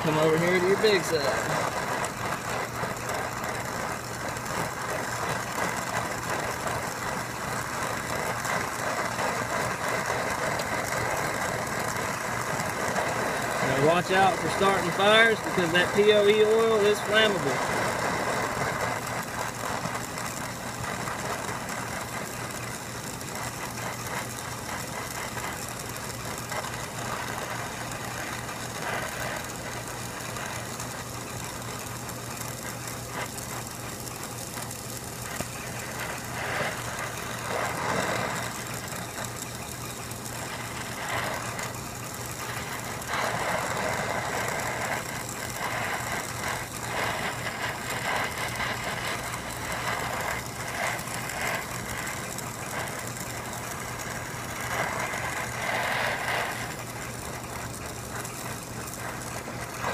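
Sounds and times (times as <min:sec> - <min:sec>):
steady low hum: 0:00.0 - 0:59.9
torch flame hissing: 0:00.0 - 0:59.9.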